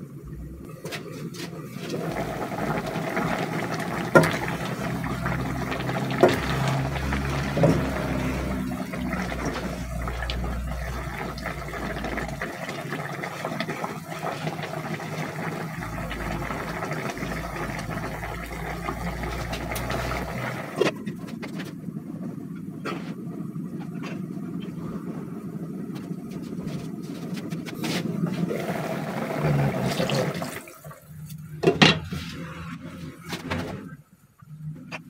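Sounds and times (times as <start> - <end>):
stew bubbling in pot: 0.0 - 33.9.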